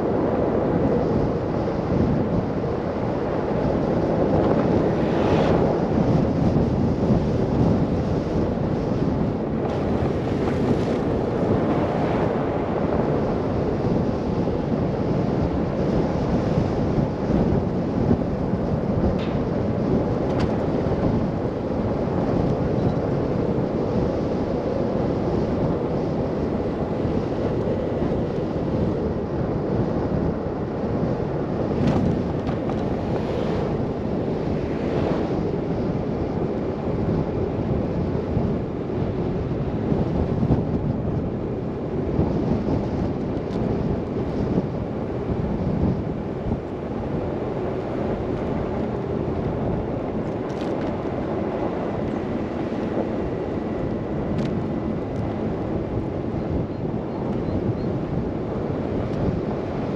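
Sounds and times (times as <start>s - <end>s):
car driving on snowy road: 0.0s - 15.7s, 16.3s - 37.8s, 43.1s - 56.4s
rushing wind: 0.0s - 59.9s.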